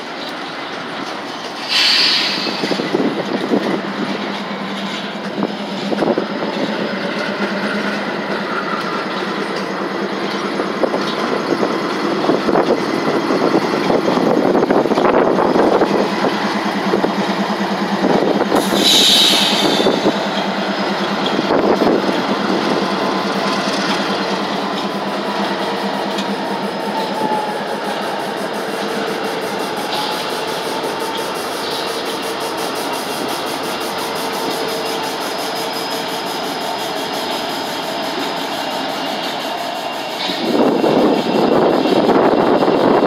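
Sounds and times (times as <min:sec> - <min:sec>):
freight train wheels rumbling: 0:00.0 - 0:43.0
high train squeals: 0:00.0 - 0:43.0.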